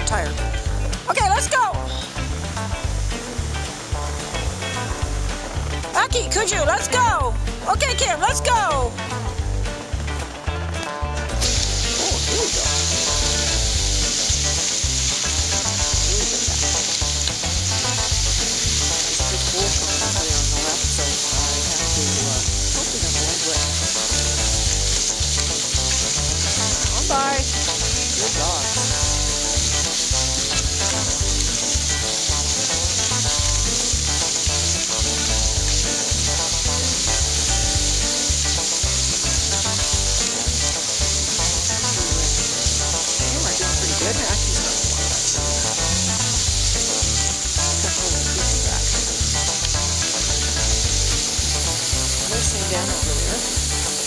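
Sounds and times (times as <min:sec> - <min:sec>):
sled runners hissing over snow: 0:01.2 - 0:54.0.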